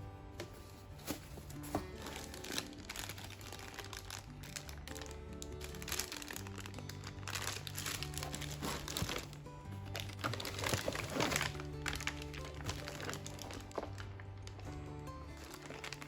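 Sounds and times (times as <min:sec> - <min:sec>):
crinkling handling noise: 0:00.0 - 0:16.0.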